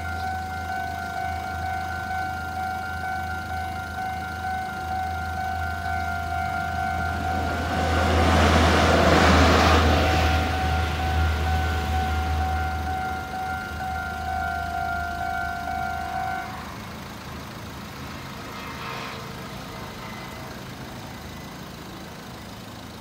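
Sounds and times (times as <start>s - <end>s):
low engine rumble: 0.0s - 23.0s
quiet engine hum: 0.0s - 23.0s.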